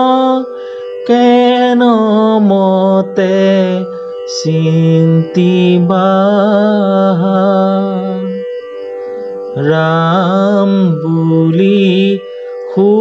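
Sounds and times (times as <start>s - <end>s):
man singing devotional song: 0.0s - 8.5s, 9.6s - 13.0s
steady drone: 0.0s - 13.0s.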